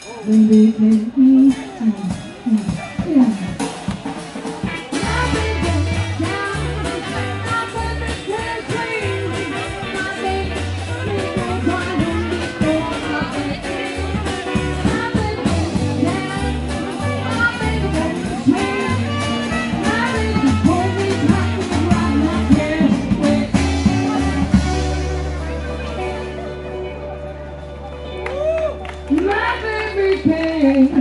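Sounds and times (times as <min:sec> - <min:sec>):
upbeat jazz dance music: 0:00.4 - 0:31.0.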